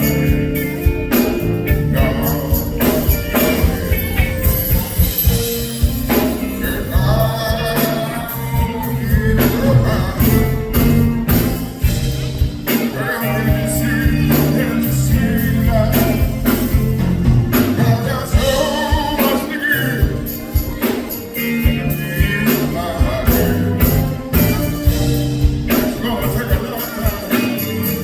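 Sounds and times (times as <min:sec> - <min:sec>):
bass line: 0:00.0 - 0:20.8, 0:21.4 - 0:28.0
steady drum beat: 0:00.0 - 0:28.0
wavering melodic lead line: 0:00.0 - 0:28.0.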